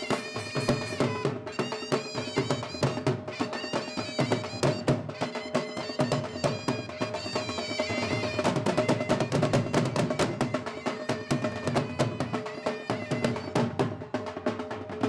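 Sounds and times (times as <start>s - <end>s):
dhol drums beating: 0.0s - 15.0s.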